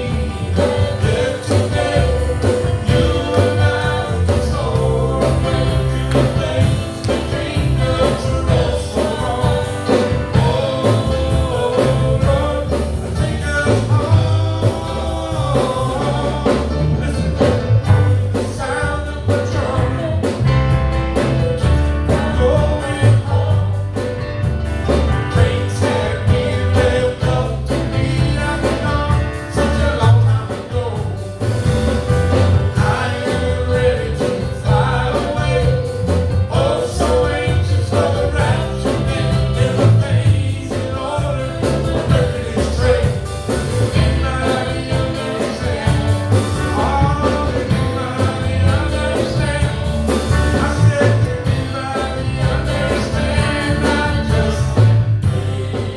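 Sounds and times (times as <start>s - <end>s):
bass line: 0.0s - 55.9s
gospel singing with band: 0.0s - 55.9s.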